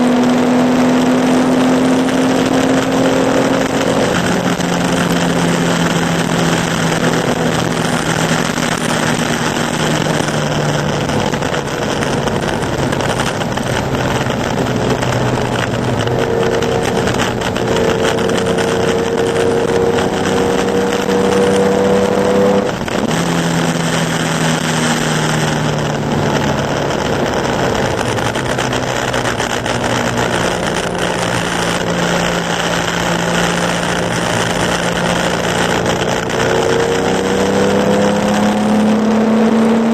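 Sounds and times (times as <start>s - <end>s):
racing car engine running hard: 0.0s - 39.9s.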